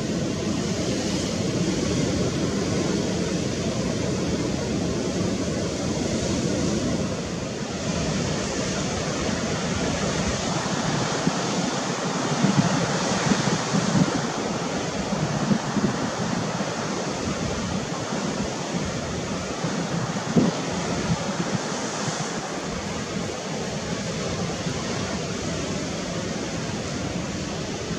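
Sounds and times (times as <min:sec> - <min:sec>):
sea surf: 0:00.0 - 0:27.9
wind buffeting microphone: 0:00.0 - 0:27.9.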